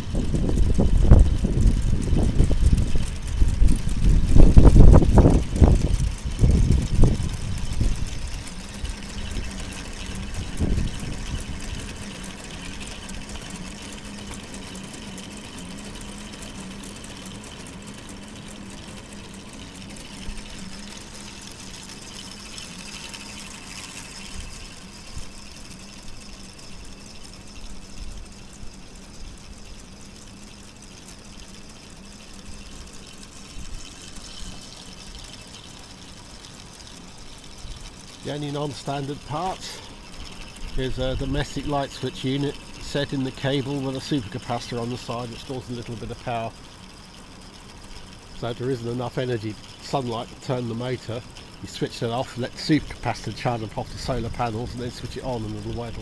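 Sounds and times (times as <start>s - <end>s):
model engine whirring with clicks: 0.0s - 56.0s.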